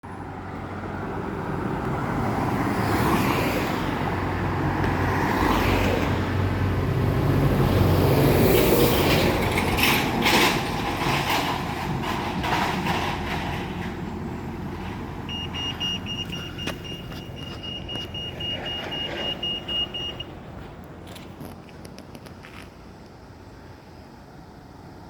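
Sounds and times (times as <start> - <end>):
road traffic driving past: 0.0 - 25.0.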